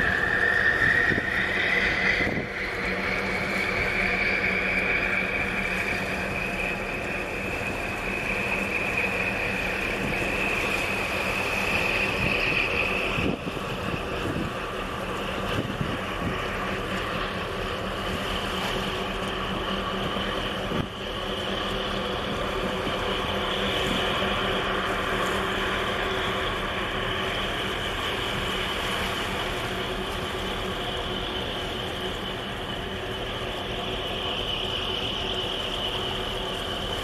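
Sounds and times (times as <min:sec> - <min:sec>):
faint constant whine: 0:00.0 - 0:37.0
ship engine drone: 0:00.0 - 0:37.0.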